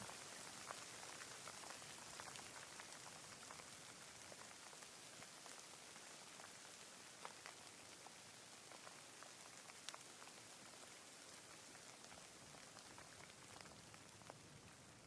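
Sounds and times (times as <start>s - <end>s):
gentle rain hiss: 0.0s - 15.0s
raindrops ticking on a surface: 0.0s - 15.0s.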